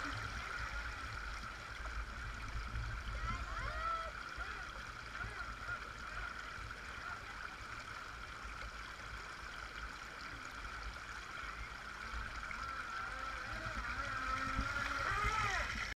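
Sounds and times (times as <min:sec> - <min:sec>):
stream rushing over stones: 0:00.0 - 0:15.9
toy boat motor whine: 0:00.0 - 0:15.9.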